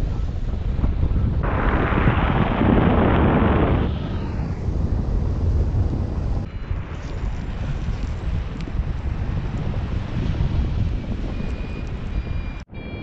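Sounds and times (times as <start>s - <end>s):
low rumble: 0.0s - 12.5s
wind rushing over microphone: 0.0s - 13.0s.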